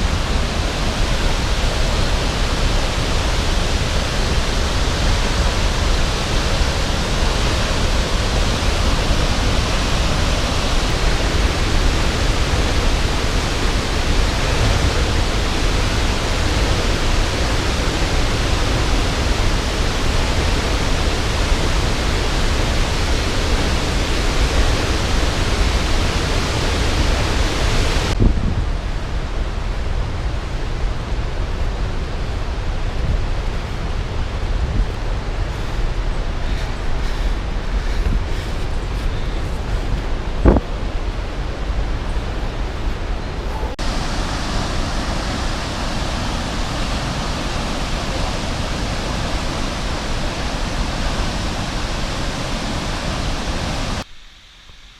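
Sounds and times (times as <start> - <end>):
waterfall rushing: 0.0 - 54.1.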